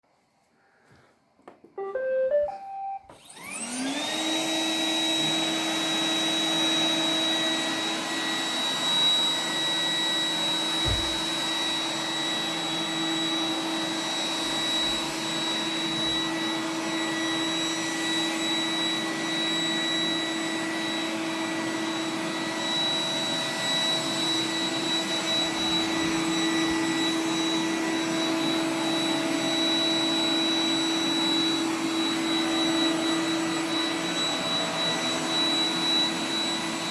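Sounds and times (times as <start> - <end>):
robot vacuum motor whine: 1.8 - 36.9.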